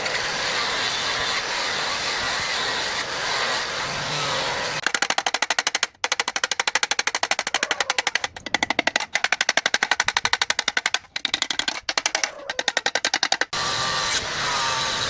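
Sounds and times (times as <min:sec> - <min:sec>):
power tool hammering rapidly: 0:00.0 - 0:15.0.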